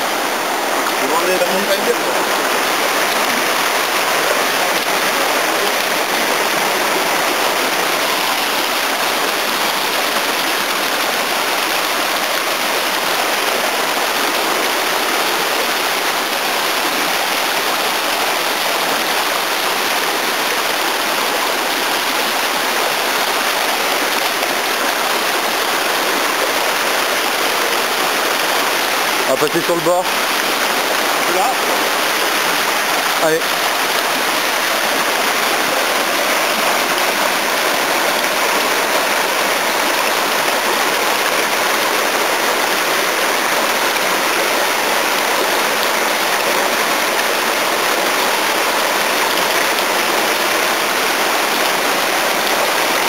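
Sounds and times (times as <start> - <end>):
mountain stream rushing over boulders: 0.0 - 53.0.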